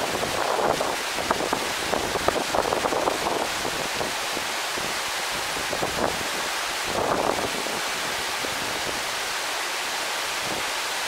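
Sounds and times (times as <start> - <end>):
waterfall pouring into pond: 0.0 - 11.0.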